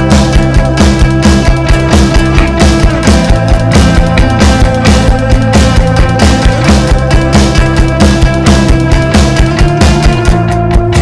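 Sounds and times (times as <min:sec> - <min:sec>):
instrumental indie rock band: 0:00.0 - 0:11.0.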